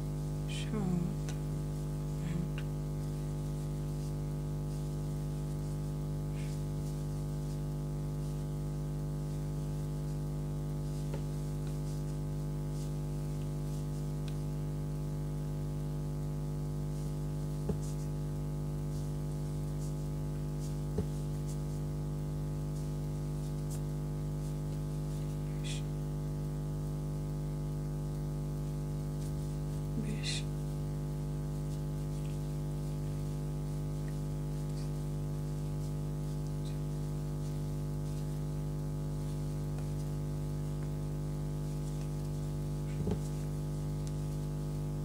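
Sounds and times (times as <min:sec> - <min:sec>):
low electrical hum: 0:00.0 - 0:45.0.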